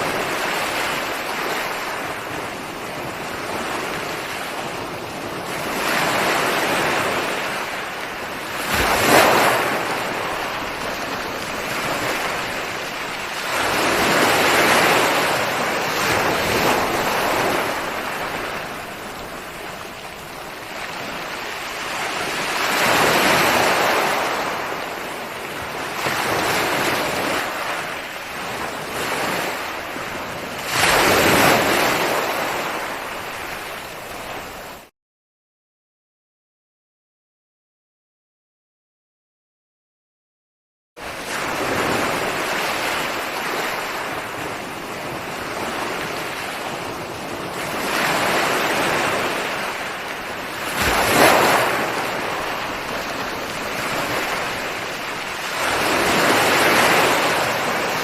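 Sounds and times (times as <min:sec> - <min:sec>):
ocean waves breaking: 0:00.0 - 0:34.9, 0:41.0 - 0:58.0.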